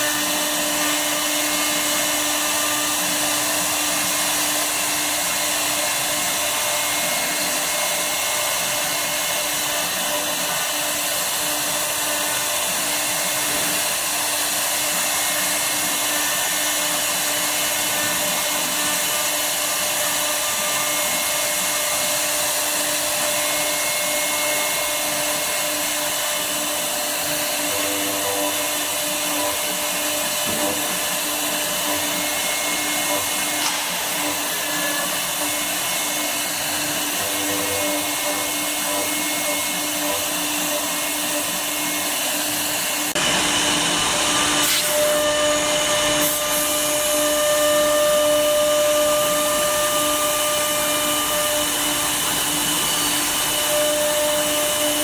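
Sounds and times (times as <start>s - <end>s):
wood router spindle whine: 0.0s - 55.0s.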